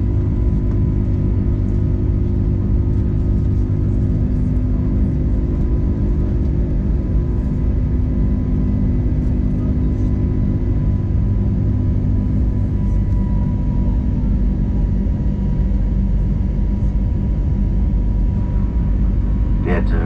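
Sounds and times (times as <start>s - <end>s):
airplane cabin drone: 0.0s - 20.0s
faint steady whine: 0.0s - 20.0s
low hum: 0.0s - 20.0s.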